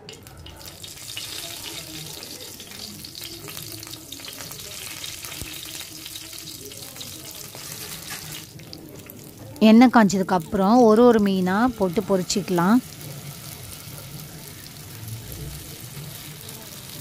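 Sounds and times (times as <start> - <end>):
leaves sizzling in hot oil: 0.0 - 17.0.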